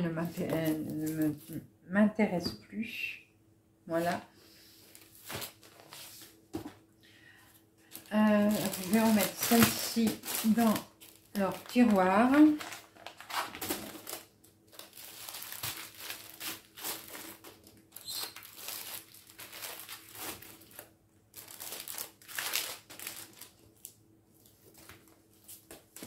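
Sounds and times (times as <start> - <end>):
paper rustling and crinkling: 0.2 - 1.6, 4.8 - 6.7, 7.8 - 26.0.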